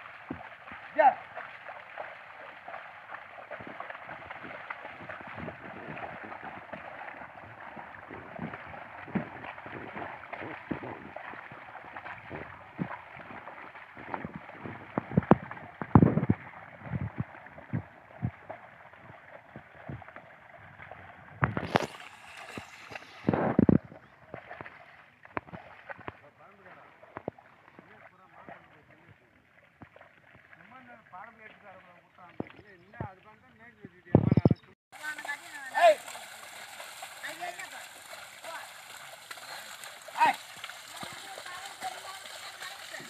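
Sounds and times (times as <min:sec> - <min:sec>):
hooves splashing in mud: 0:00.0 - 0:43.0
water and mud sloshing: 0:00.0 - 0:43.0.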